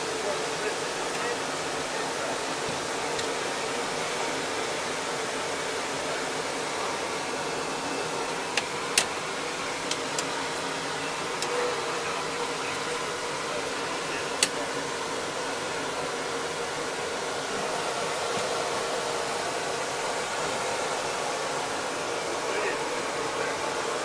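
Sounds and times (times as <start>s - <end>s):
helicopter turbine whine: 0.0s - 24.0s.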